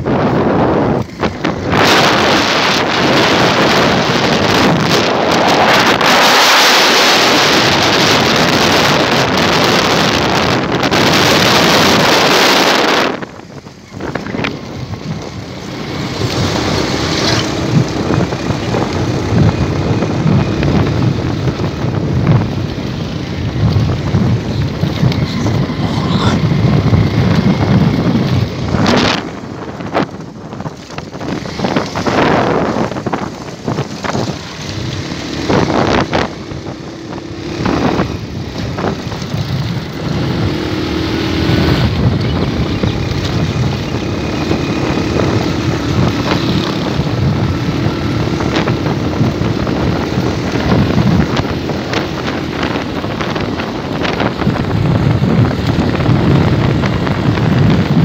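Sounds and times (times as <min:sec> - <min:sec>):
motorcycle on rough road: 0:00.0 - 0:58.0
wind buffeting microphone: 0:00.0 - 0:58.0.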